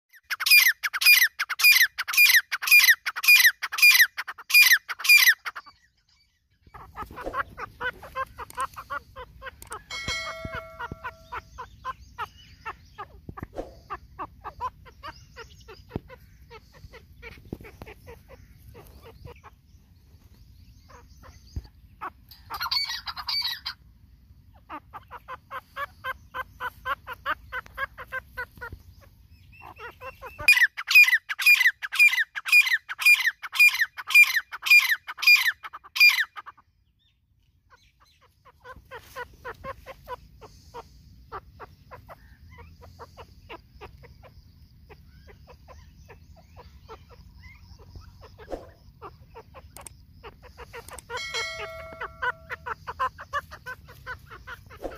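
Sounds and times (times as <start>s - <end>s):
partridge calling: 0.1s - 23.8s, 24.4s - 54.9s
loud evenly spaced bird calls: 0.1s - 54.9s.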